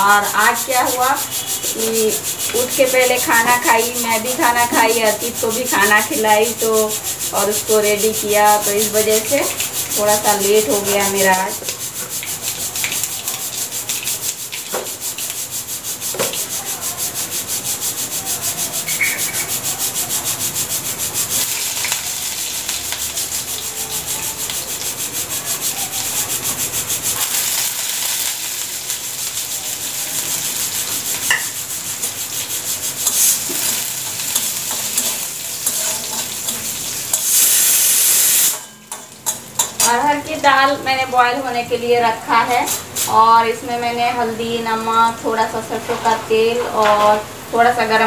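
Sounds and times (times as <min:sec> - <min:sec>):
oil sizzling in a pan: 0:00.0 - 0:48.0.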